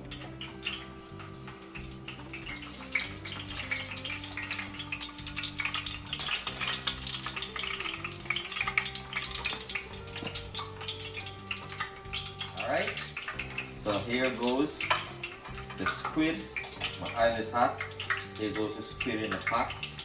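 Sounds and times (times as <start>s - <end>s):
background music with held notes: 0.0s - 20.0s
hot oil sizzling and crackling: 0.0s - 20.0s.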